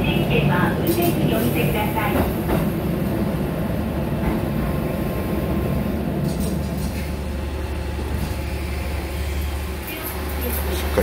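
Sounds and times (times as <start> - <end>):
railcar engine rumble: 0.0 - 11.0.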